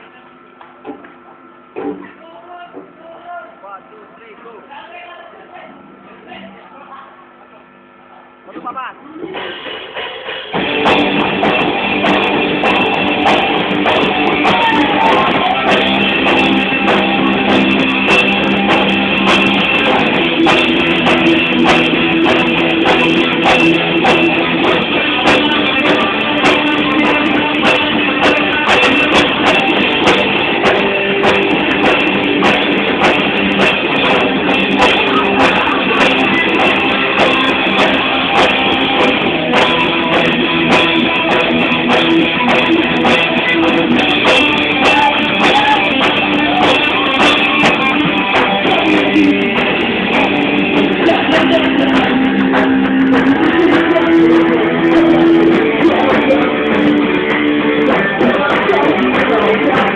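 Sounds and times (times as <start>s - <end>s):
drum kit: 8.6s - 59.9s
electric guitars strumming: 8.6s - 59.9s.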